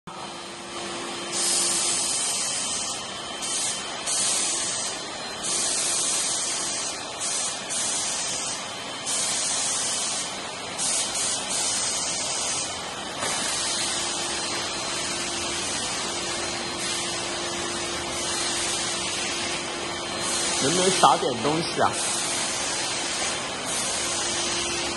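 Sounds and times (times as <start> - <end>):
steam gun hissing blasts: 1.3 - 14.8, 15.5 - 17.4, 20.2 - 24.9.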